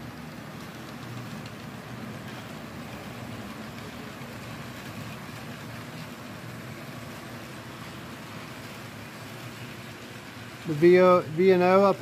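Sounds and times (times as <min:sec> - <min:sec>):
model train motor whir: 0:00.0 - 0:12.0
wheels rolling over rails: 0:00.0 - 0:12.0.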